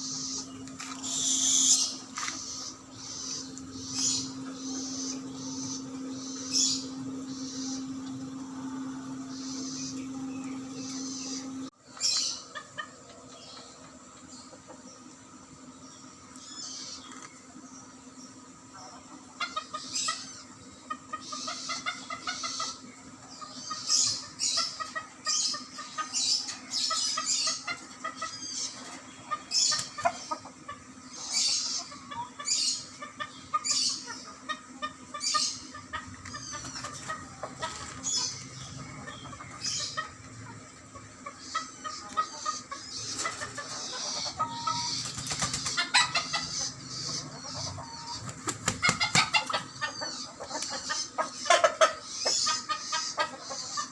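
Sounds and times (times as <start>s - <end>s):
chickens clucking: 0.0s - 53.9s
small birds chirping: 0.0s - 53.9s.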